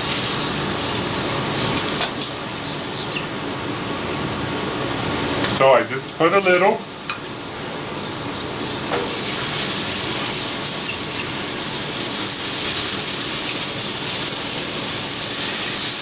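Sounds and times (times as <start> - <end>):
meat sizzling on griddle: 0.0 - 16.0.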